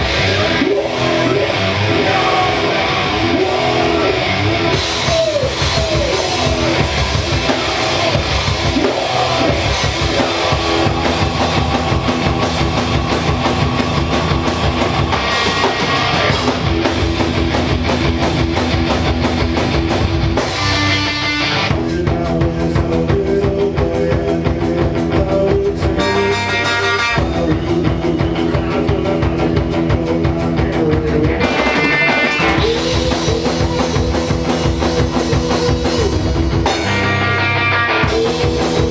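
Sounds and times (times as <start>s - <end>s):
drum kit: 0.0s - 38.9s
electric guitar: 0.0s - 38.9s
rock band playing: 0.0s - 38.9s.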